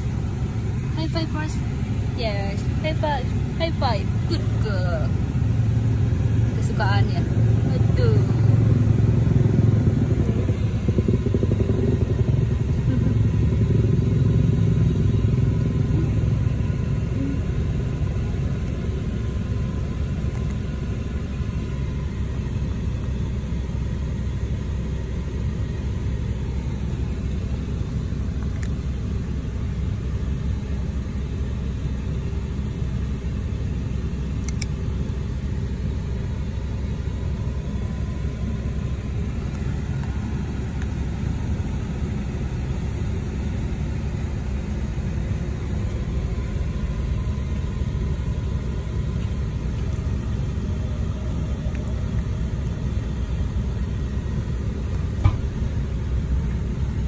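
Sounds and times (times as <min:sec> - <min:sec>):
low rumble inside car: 0:00.0 - 0:57.0.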